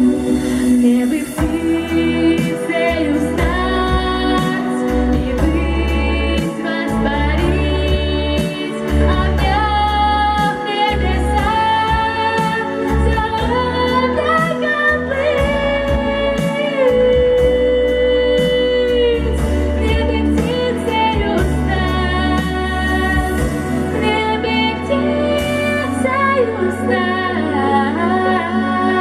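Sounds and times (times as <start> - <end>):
instrumental backing music: 0.0 - 29.0
woman singing with vibrato: 0.0 - 29.0.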